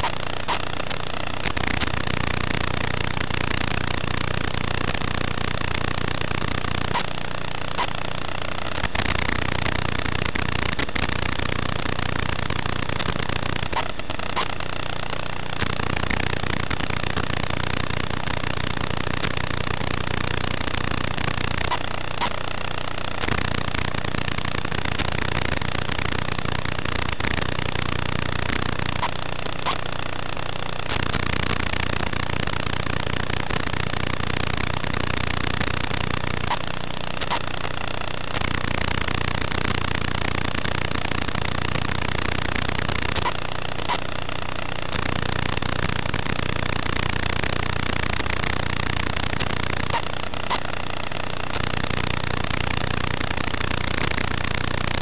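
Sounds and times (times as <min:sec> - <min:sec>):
low hum: 0:00.0 - 0:55.0
steady static hiss: 0:00.0 - 0:55.0.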